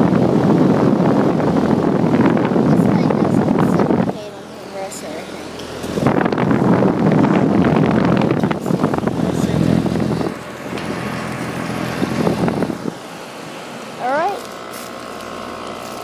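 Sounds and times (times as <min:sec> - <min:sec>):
air conditioner fan blowing: 0:00.0 - 0:16.0.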